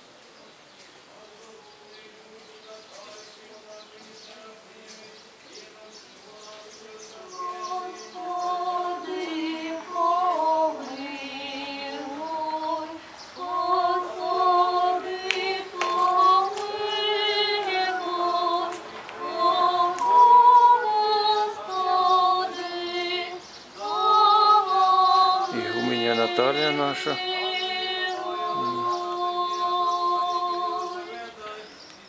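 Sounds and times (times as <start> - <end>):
women's choir chanting: 5.7 - 31.9.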